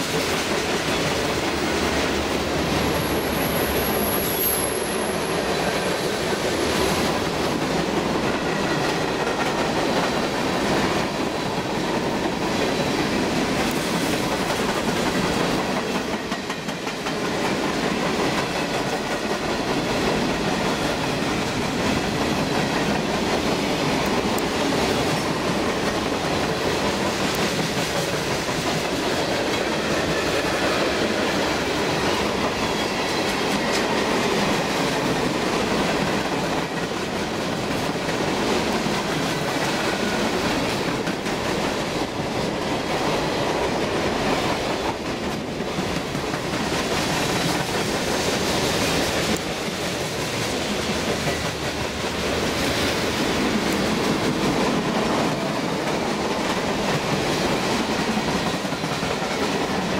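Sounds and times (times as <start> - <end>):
train wheels clattering over rails: 0.0 - 59.9.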